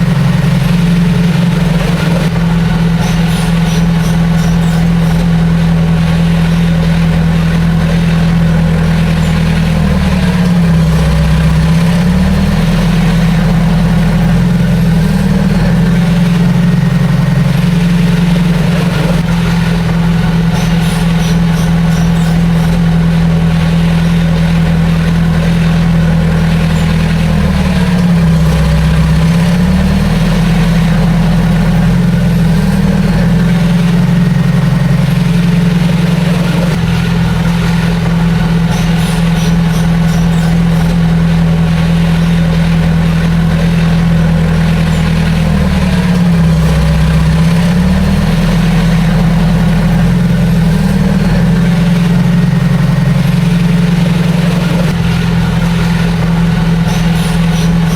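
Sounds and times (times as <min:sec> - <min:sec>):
diesel machine engine running: 0:00.0 - 0:57.9.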